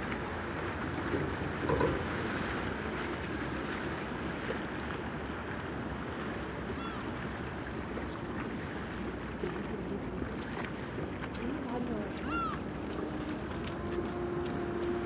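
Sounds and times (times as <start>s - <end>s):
water noise: 0.0s - 15.0s
wind: 0.0s - 15.0s.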